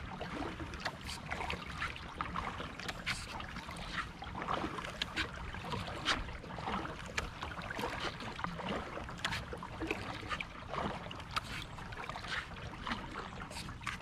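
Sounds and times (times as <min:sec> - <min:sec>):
paddle splashing in water: 0:00.0 - 0:14.0.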